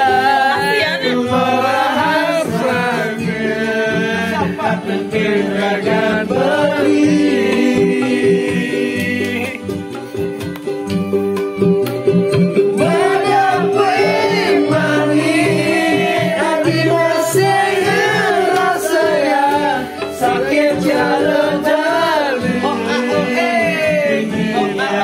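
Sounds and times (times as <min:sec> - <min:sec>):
person singing: 0:00.0 - 0:10.2, 0:12.8 - 0:25.0
music with steady beat: 0:00.0 - 0:25.0.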